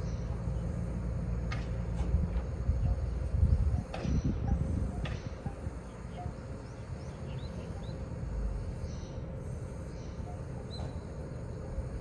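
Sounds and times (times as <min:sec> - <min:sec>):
small birds chirping: 0:00.0 - 0:01.4, 0:02.5 - 0:12.0
low outdoor rumble: 0:00.0 - 0:12.0.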